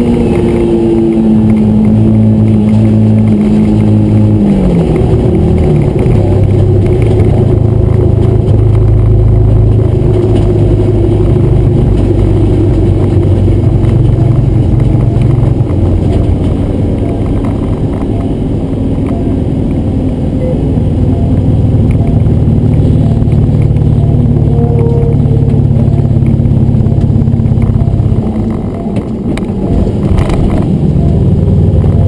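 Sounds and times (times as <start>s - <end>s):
car engine running hard: 0.0s - 32.0s.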